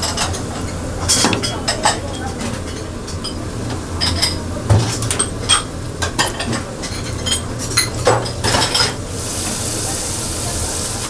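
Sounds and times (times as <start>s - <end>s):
utensils and dishes clinking: 0.0s - 9.8s.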